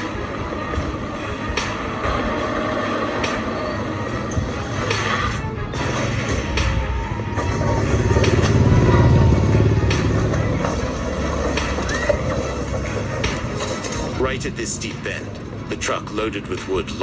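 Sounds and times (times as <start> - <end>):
background music: 0.0 - 17.0
truck engine rumbling: 0.0 - 17.0.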